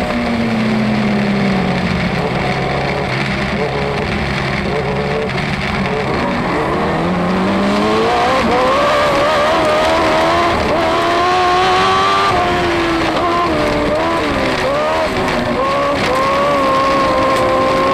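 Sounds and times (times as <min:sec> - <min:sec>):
race car engine revving: 0:00.0 - 0:17.9.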